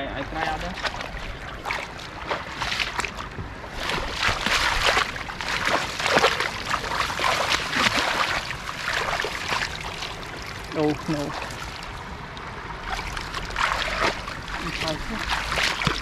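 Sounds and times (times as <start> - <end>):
hands splashing in water: 0.7 - 3.2, 3.8 - 11.9, 12.9 - 16.0.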